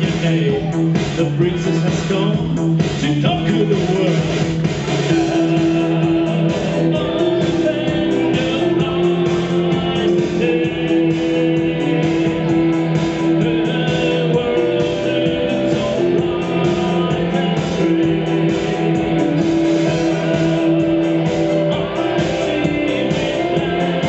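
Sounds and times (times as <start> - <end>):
instrumental band music led by guitar: 0.0 - 24.0.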